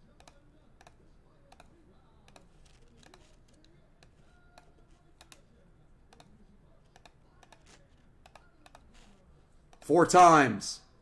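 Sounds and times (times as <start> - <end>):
keyboard and mouse clicks: 0.1 - 5.4, 6.1 - 9.9.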